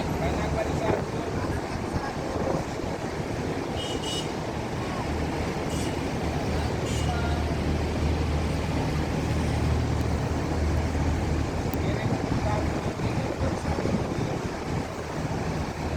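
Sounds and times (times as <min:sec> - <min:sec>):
ship engine droning: 0:00.0 - 0:15.9
wind and water rushing: 0:00.0 - 0:15.9.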